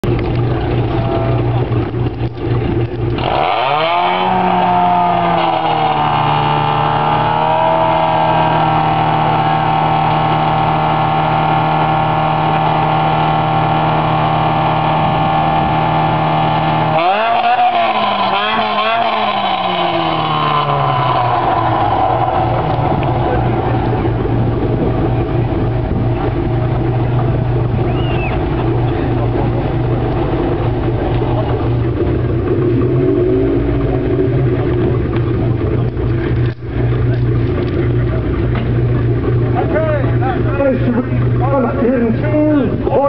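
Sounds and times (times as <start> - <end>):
sports car engine revving: 0.0 - 43.0.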